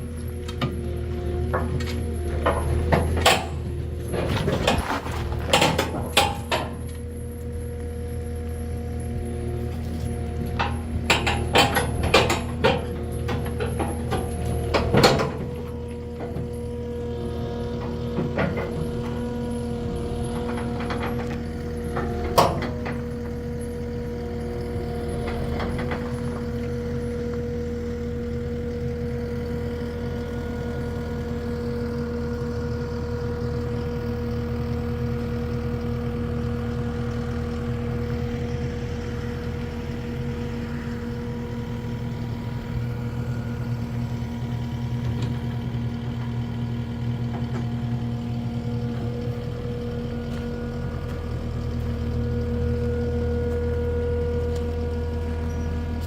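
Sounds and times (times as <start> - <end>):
heavy vehicle engine running: 0.0 - 56.0.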